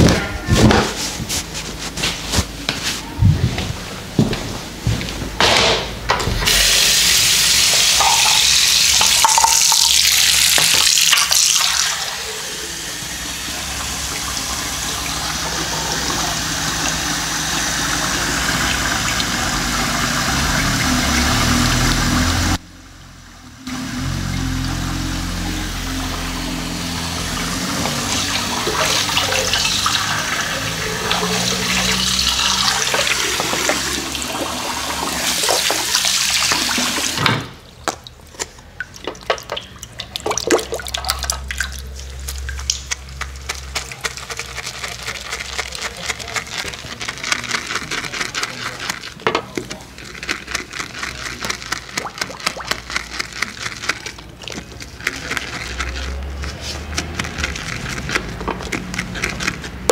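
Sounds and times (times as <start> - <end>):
running water: 6.4 - 22.8, 23.6 - 59.9.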